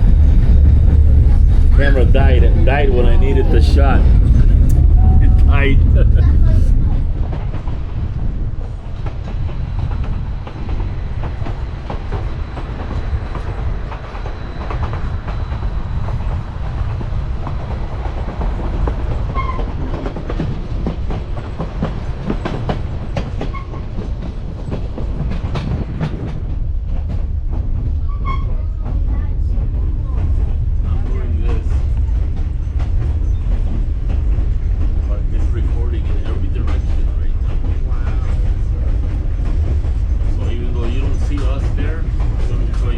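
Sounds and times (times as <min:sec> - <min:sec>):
train rumbling: 0:00.0 - 0:42.9
train wheels clicking on rails: 0:00.0 - 0:42.9.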